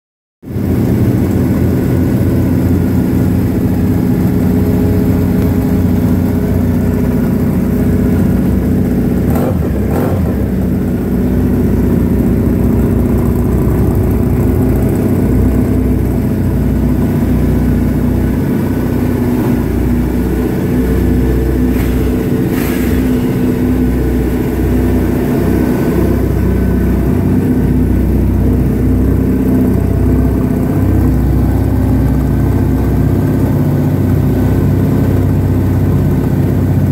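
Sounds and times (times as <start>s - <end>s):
motorcycles idling: 0.4s - 36.9s.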